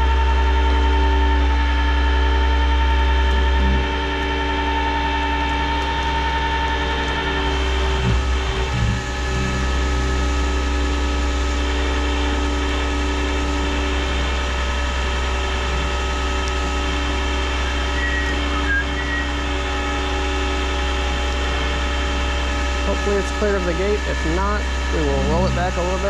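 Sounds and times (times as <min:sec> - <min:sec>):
truck engine running: 0:01.6 - 0:26.0.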